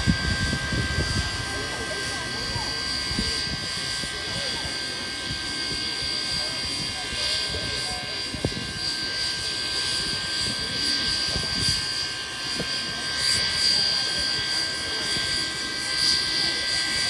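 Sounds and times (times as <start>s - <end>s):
steam locomotive venting steam: 0.0s - 17.0s.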